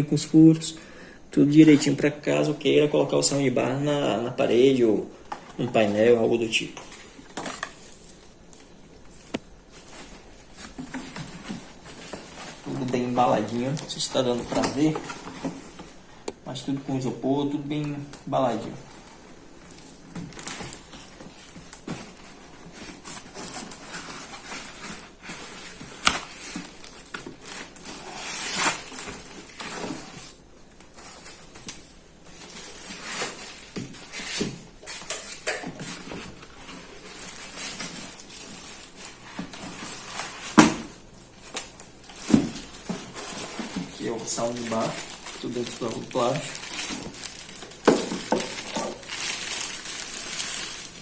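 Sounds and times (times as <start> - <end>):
styrofoam and plastic rustling: 4.7 - 51.0.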